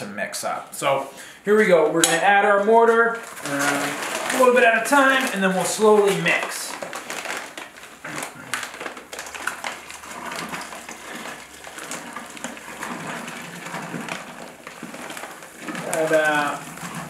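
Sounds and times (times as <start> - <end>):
powder pouring into bucket: 1.2 - 17.0
paper sack crinkling: 1.9 - 17.0.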